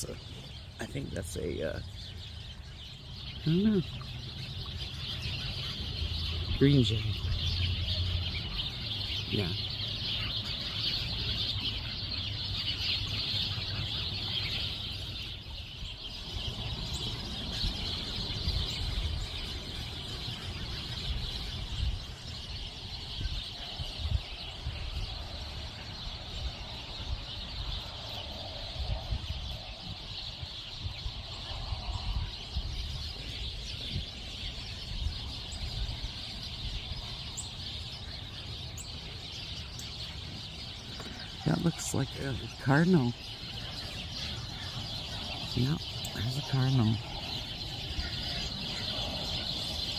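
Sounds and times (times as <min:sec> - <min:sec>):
wild birds chattering: 0:00.0 - 0:49.9.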